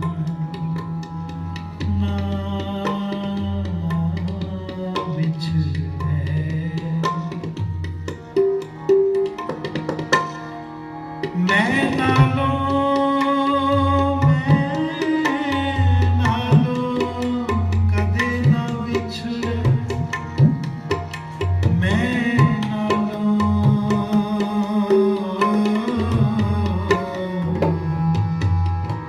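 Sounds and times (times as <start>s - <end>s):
tabla playing: 0.0s - 29.0s.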